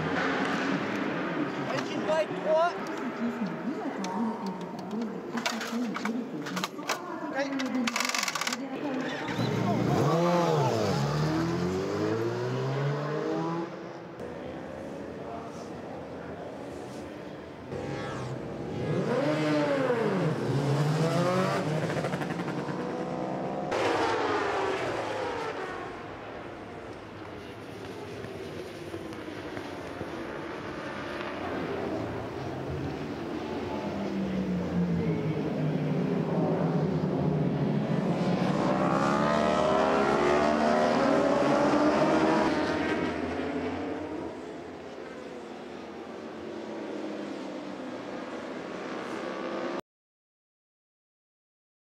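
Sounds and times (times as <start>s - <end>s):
motorcycle engines revving and passing: 0.0s - 49.8s.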